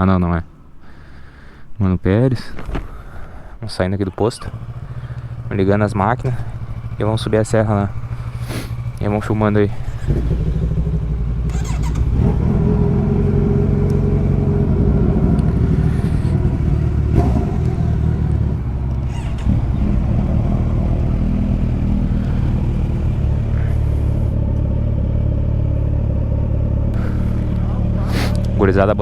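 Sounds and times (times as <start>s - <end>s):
motorcycle engines idling: 0.0s - 29.0s.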